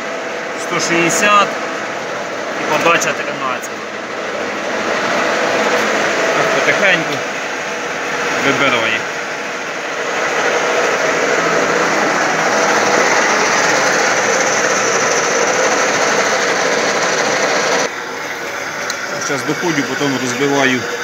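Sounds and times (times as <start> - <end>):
lathe running: 0.0 - 21.0
milling machine cutting steel: 0.0 - 21.0.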